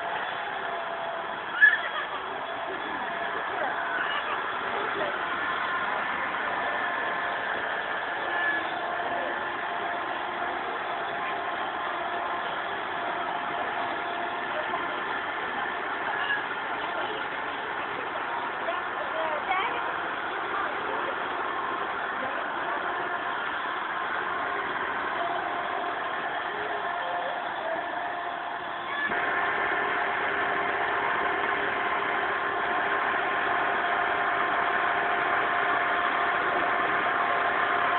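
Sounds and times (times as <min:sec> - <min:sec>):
small motor and gears whirring: 0:00.0 - 0:37.9.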